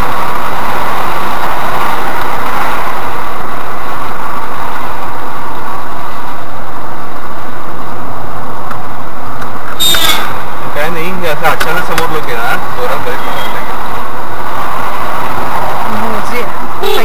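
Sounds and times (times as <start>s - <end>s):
car cabin engine and tyre noise: 0.0s - 17.0s.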